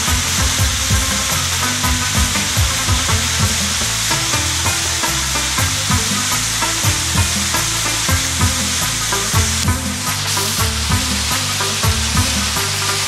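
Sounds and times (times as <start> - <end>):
background music with drum beat: 0.0 - 13.0
bass line: 0.0 - 13.0
heavy even hiss: 0.0 - 13.0.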